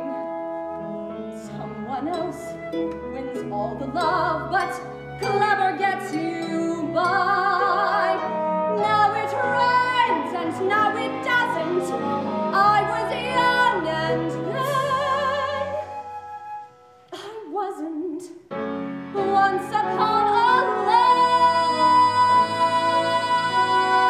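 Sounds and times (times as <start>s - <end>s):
woman singing: 0.0s - 16.4s, 17.1s - 18.5s, 19.2s - 24.0s
instrumental accompaniment: 0.0s - 17.2s, 18.5s - 24.0s.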